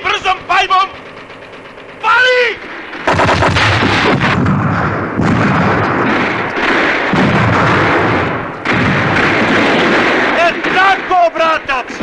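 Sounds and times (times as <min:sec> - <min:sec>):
field guns firing: 0:00.0 - 0:12.0
shells bursting: 0:00.0 - 0:12.0.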